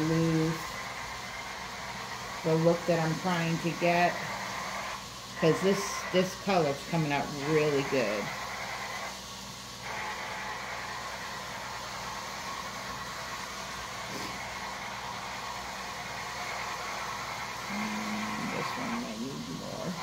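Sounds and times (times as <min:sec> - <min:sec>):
small motor whirring: 0:00.0 - 0:20.0.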